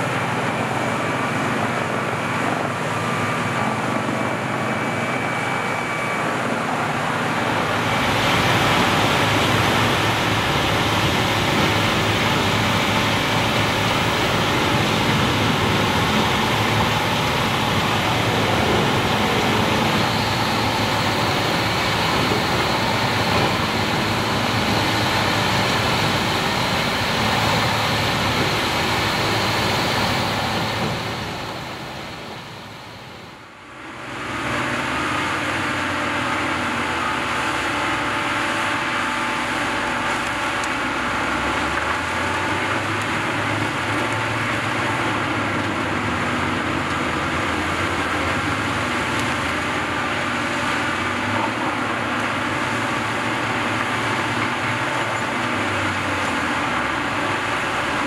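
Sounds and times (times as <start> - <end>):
low engine drone: 0.0 - 58.0.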